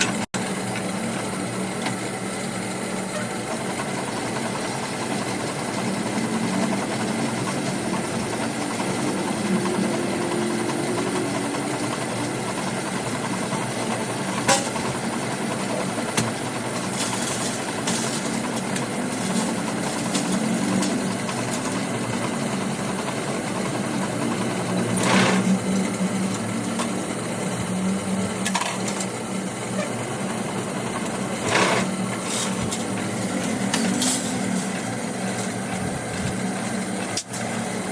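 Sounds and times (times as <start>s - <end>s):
lathe running: 0.0s - 37.9s.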